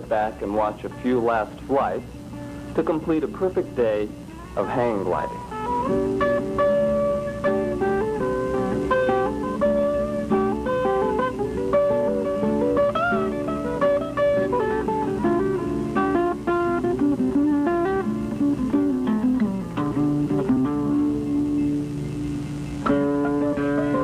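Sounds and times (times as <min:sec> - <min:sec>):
plucked guitar melody: 0:00.0 - 0:24.0.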